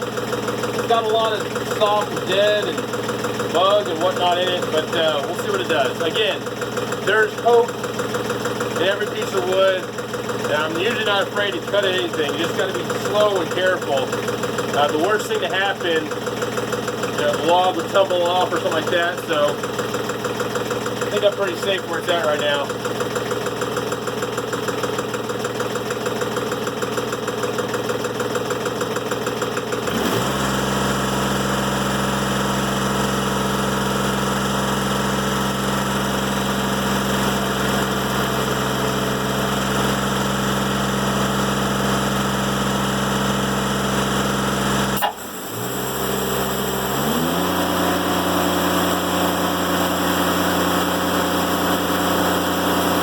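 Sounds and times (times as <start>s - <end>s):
sawmill engine humming: 0.0s - 53.0s.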